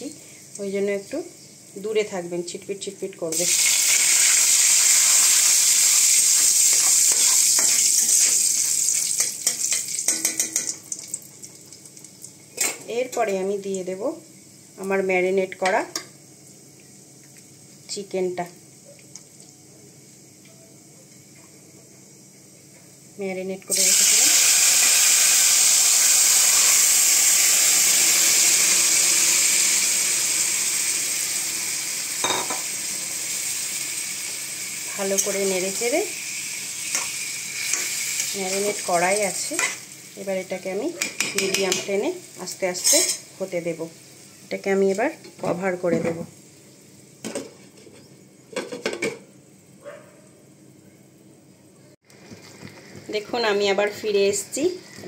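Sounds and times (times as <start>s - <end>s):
leaves sizzling in hot oil: 0.0s - 20.4s, 23.1s - 48.5s.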